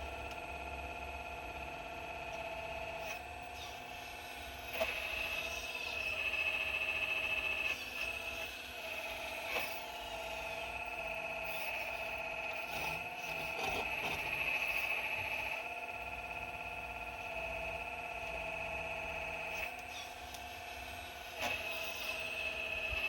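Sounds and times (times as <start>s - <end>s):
excavator high-pitched whine: 0.0s - 23.0s.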